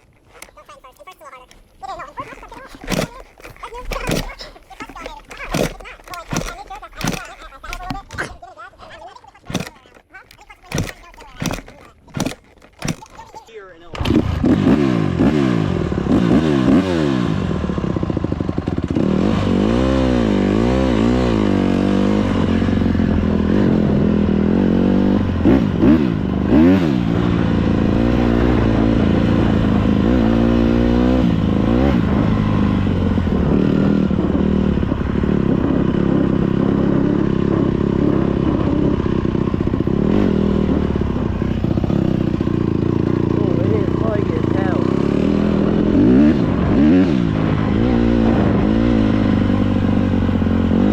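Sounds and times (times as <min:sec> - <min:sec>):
dirt bike engine revving: 0:01.5 - 0:08.4, 0:09.1 - 0:50.9.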